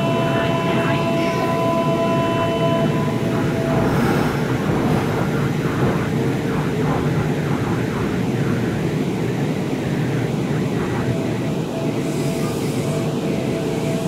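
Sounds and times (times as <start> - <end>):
electric train equipment humming: 0.0 - 14.0.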